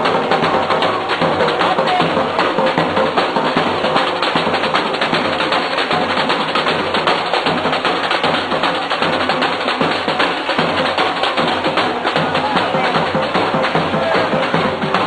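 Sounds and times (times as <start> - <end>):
percussion band drumming fast: 0.0 - 15.0.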